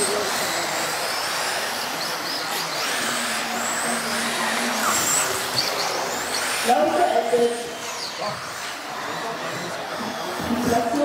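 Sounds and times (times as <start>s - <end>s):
model car motors whining: 0.0s - 11.0s.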